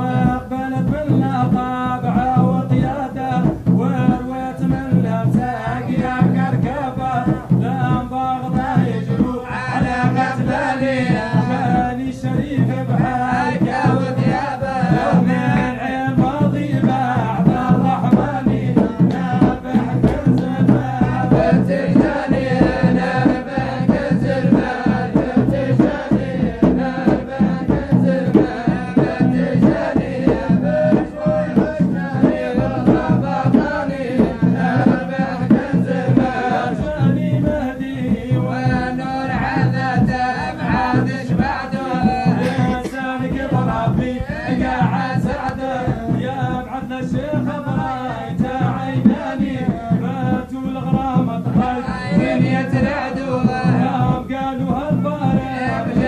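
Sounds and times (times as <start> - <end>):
hand drum steady rhythm: 0.0 - 56.0
men chanting together: 0.0 - 56.0.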